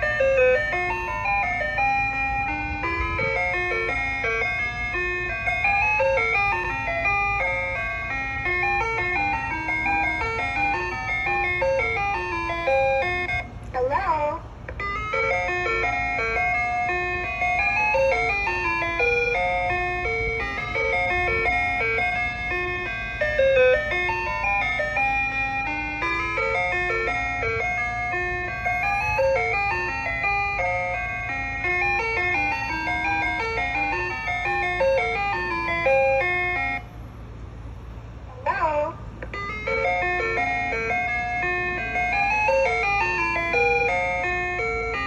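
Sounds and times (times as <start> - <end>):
ice cream truck chime jingle: 0.0 - 45.0
steady low hum: 0.0 - 45.0.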